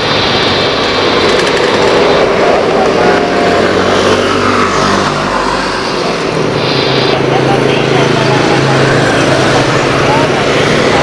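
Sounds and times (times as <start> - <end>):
jet engines hissing: 0.0 - 11.0.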